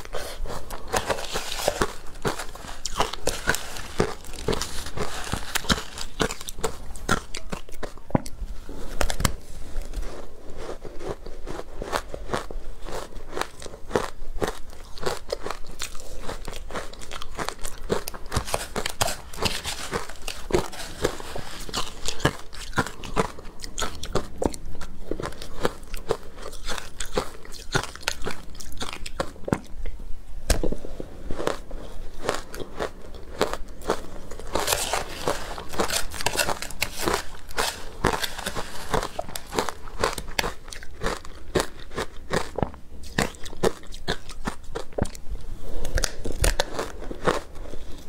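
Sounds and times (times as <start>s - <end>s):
crunching ice while chewing: 0.0s - 29.9s, 30.5s - 48.0s.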